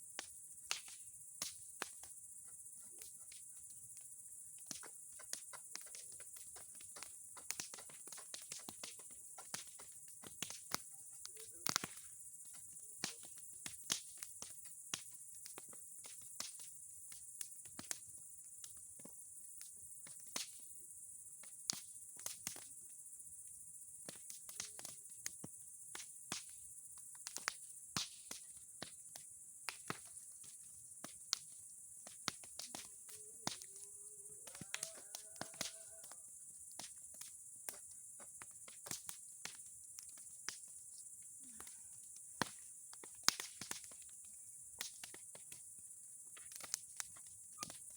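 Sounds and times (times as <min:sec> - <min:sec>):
wood fire pops and snaps: 0:00.1 - 0:20.7, 0:21.4 - 0:22.9, 0:24.0 - 0:47.9
high-pitched fire hiss: 0:00.1 - 0:20.8, 0:24.1 - 0:47.9.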